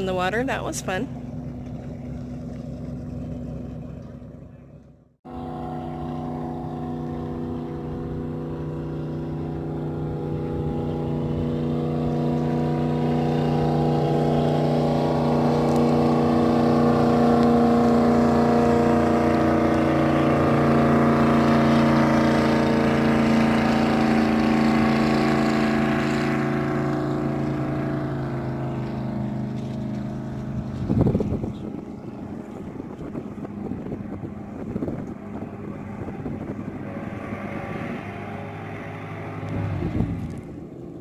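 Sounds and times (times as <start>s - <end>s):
jet boat engine drone: 0.0s - 41.0s.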